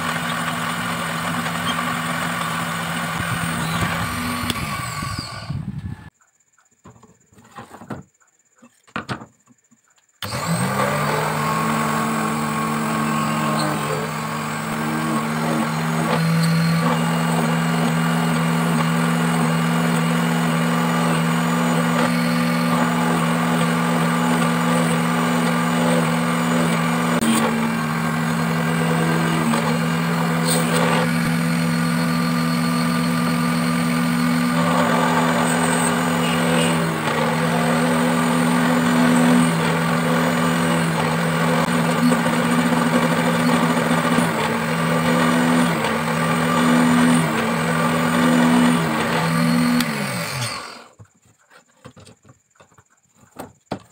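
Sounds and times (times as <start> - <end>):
drill bit drilling bamboo: 0.0 - 6.1, 10.2 - 51.0
drill press motor hum: 0.0 - 6.2, 10.1 - 51.0.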